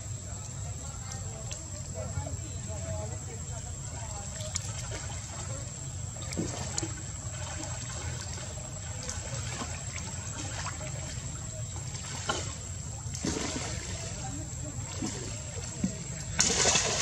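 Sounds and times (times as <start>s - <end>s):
small splashes: 0.0s - 17.0s
water lapping and trickling: 0.0s - 17.0s.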